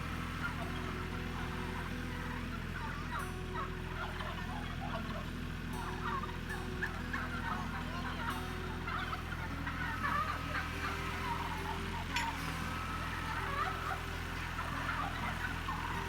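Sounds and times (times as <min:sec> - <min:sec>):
turkeys calling: 0:00.0 - 0:16.0.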